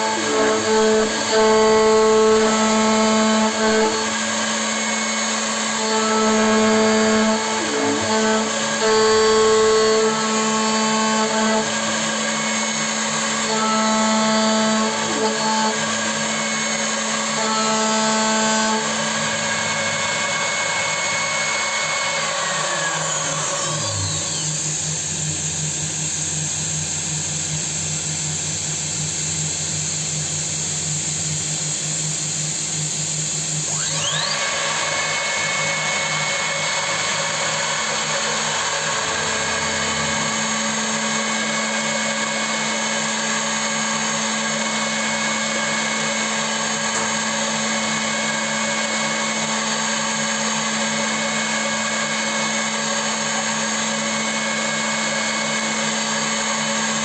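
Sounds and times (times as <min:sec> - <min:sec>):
milling machine whining: 0:00.0 - 0:57.0.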